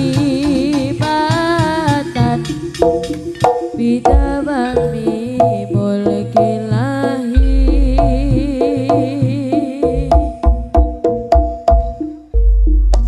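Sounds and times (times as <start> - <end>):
gamelan ensemble playing: 0.0 - 13.0
hand drum strokes: 0.0 - 13.0.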